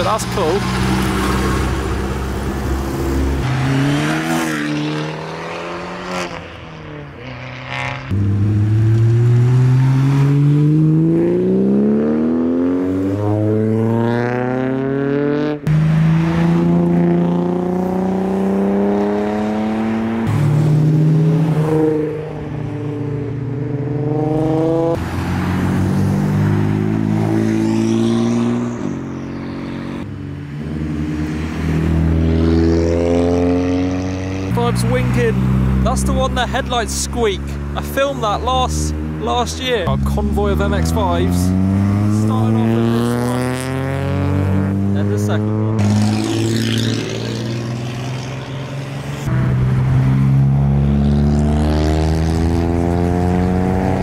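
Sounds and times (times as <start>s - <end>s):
car engines accelerating: 0.0s - 54.0s.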